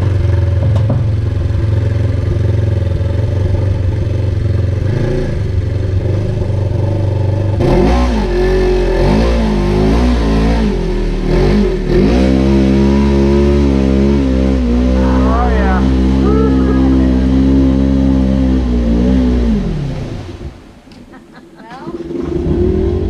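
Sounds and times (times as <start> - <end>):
vehicle engine revving: 0.0 - 20.9, 21.8 - 23.0.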